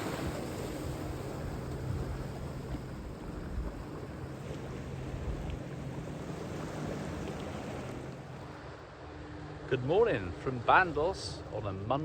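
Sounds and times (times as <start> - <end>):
choppy sea wash: 0.0 - 12.0.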